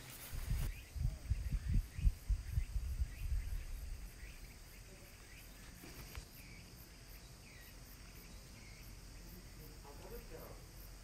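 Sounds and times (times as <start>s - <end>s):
faint insect drone: 0.0s - 11.0s
short insect chirps: 0.0s - 11.0s.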